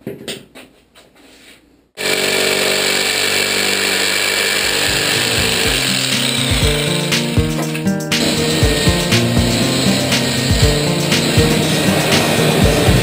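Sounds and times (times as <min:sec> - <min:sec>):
jigsaw cutting plywood: 0:02.0 - 0:13.0.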